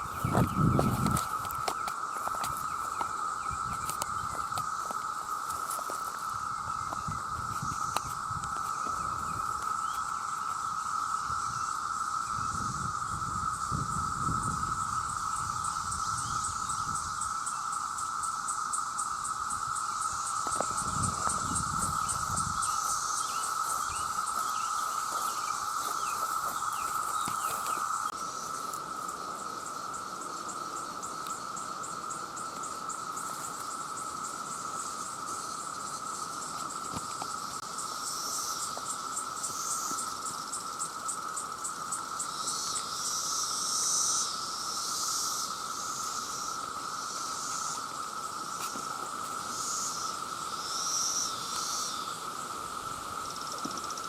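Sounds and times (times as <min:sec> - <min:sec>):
cicadas droning: 0:00.0 - 0:54.0
high-pitched pulsing insect call: 0:00.0 - 0:54.0.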